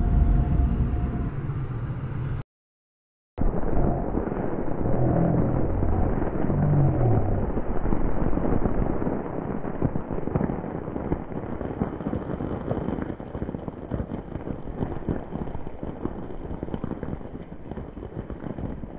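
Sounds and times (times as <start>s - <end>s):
wind rumble on microphone: 0.0s - 2.4s, 3.4s - 18.9s
heavy rain pattering: 3.4s - 18.9s.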